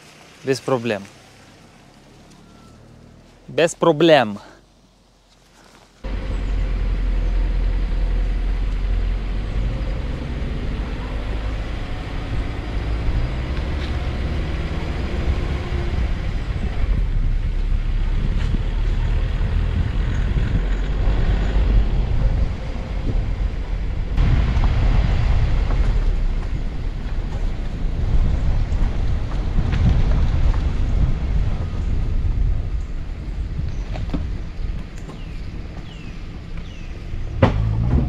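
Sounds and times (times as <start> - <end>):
tyre and body rumble on dirt track: 5.2 - 38.0
car engine at low revs: 6.0 - 38.0.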